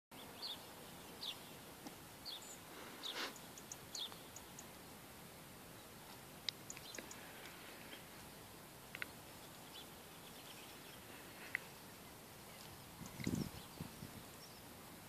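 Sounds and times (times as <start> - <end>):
background hiss: 0.1 - 15.0.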